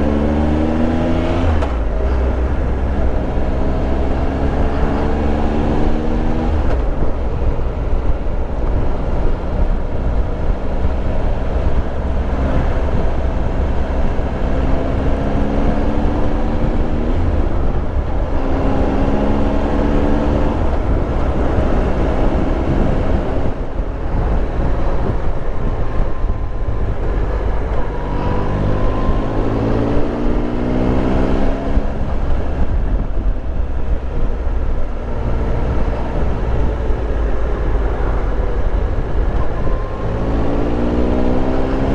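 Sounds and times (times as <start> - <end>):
motorcycle engine accelerating: 0.0 - 41.9
wind and road rush: 0.0 - 41.9.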